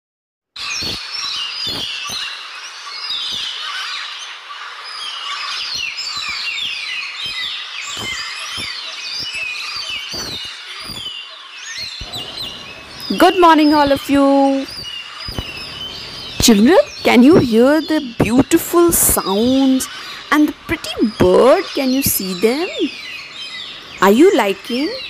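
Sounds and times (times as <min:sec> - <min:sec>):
birds chirping and whistling: 0:00.6 - 0:25.0.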